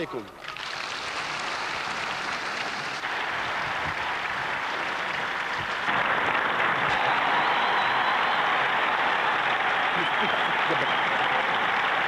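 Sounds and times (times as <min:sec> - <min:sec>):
large crowd applauding: 0:00.0 - 0:12.0.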